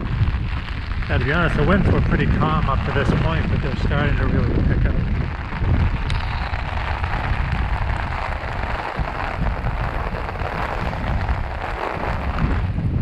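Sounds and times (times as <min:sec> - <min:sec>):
gusty wind on microphone: 0:00.0 - 0:13.0
heavy rain pattering: 0:00.0 - 0:13.0.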